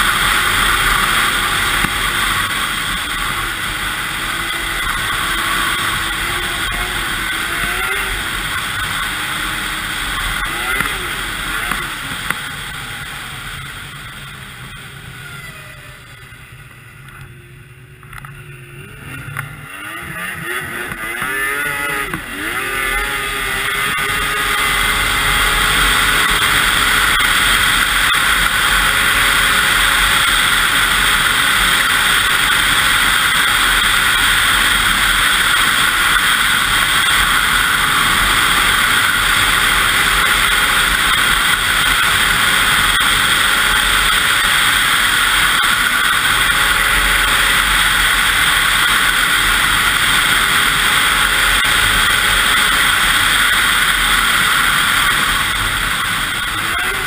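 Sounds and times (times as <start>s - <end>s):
snowmobile engine: 0.0s - 57.0s.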